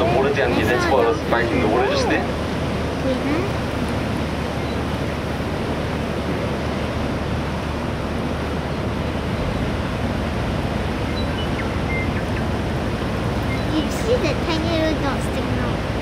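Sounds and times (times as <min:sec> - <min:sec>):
sea water rushing: 0:00.0 - 0:16.0
wind: 0:00.0 - 0:16.0.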